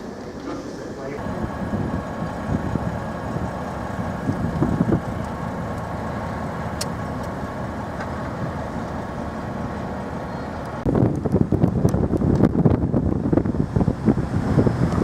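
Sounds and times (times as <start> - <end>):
engine hum with whine: 0.0 - 15.0
wind buffeting microphone: 1.2 - 15.0.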